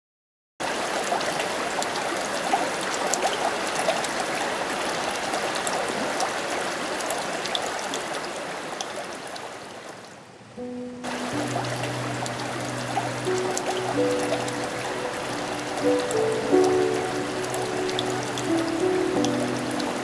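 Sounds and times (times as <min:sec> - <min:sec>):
stream babbling over rocks: 0:00.6 - 0:10.1, 0:11.0 - 0:20.0.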